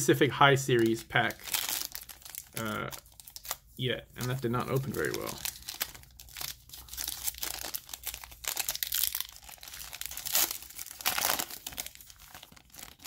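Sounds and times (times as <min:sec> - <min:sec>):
foil wrapper crinkling and tearing: 0:00.6 - 0:13.0.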